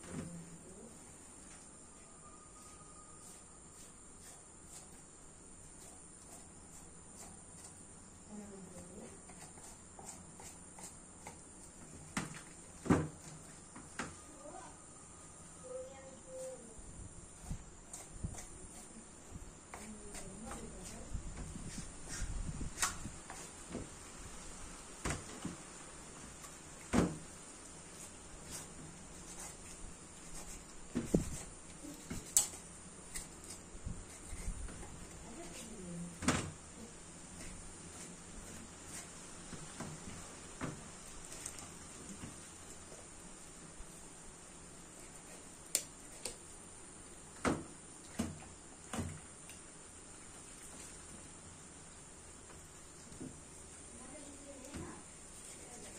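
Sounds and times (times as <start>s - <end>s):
faint steady hiss: 0.0s - 55.9s.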